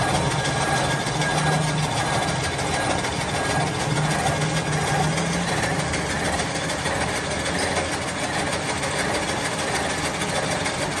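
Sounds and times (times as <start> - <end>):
gear-cutting machine rattling: 0.0 - 11.0.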